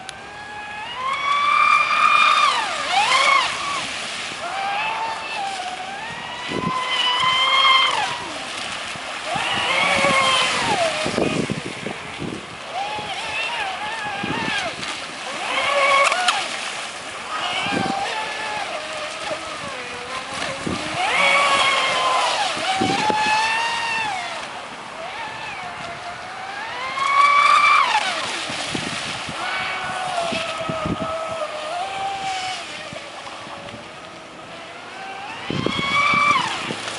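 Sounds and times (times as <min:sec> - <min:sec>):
electric motor whining: 0:00.0 - 0:08.6, 0:09.2 - 0:36.9
water splashing against hull: 0:00.0 - 0:36.9.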